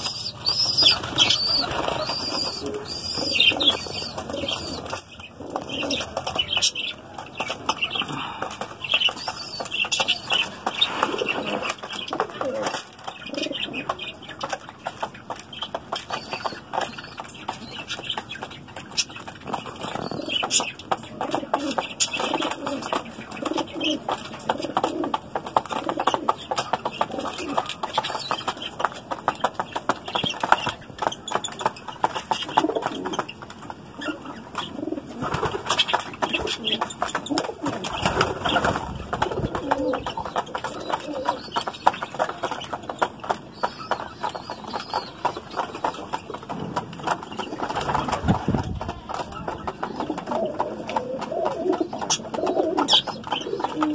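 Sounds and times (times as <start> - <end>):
pigeons cooing: 0.0 - 31.2, 32.0 - 53.9
beaks pecking plastic tray: 0.0 - 53.9.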